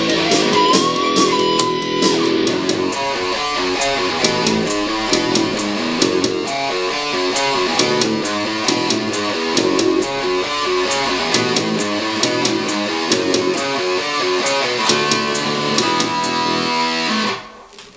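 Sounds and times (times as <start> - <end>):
drum and cymbal hits: 0.0 - 16.6
heavy metal music: 0.0 - 17.7
distorted electric guitar riff: 0.0 - 17.9.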